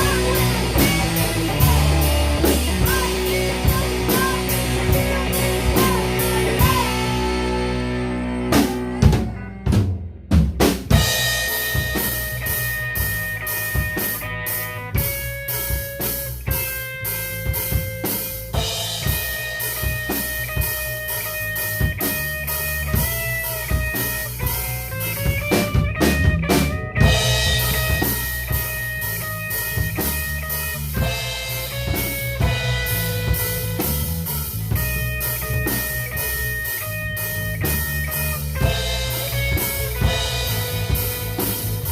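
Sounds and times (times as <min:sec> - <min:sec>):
electric guitar lead notes: 0:00.0 - 0:10.3, 0:10.9 - 0:41.9
drum kit beat: 0:00.0 - 0:41.9.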